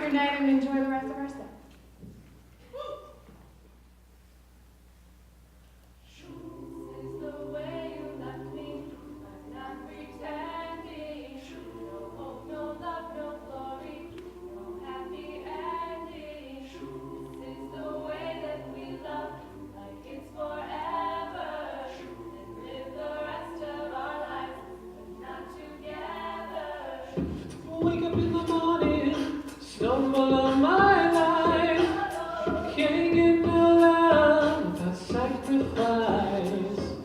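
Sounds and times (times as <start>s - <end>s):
a cappella group singing in harmony: 6.0s - 37.0s.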